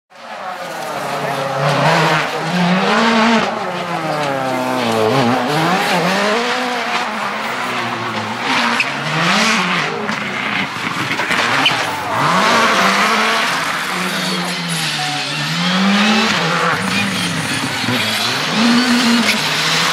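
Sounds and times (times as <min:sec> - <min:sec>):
rally car engines revving: 0:00.1 - 0:19.9.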